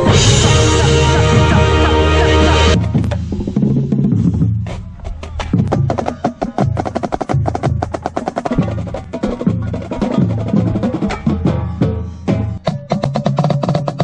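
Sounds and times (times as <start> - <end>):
low drum notes: 0.0 - 14.0.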